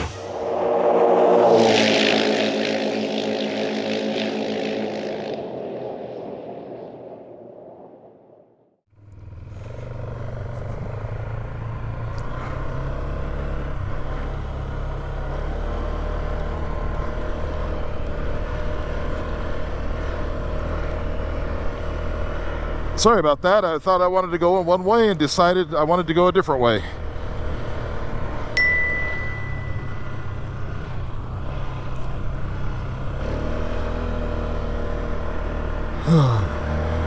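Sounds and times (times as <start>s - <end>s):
quad engine running: 0.0s - 6.3s, 9.0s - 37.0s.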